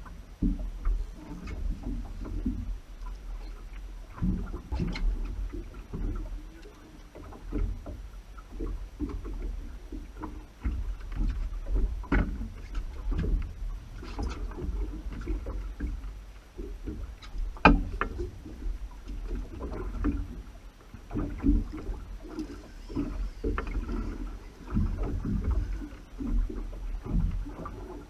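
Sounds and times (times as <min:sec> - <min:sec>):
low rumbling: 0:00.0 - 0:28.0
water sloshing: 0:00.0 - 0:28.0.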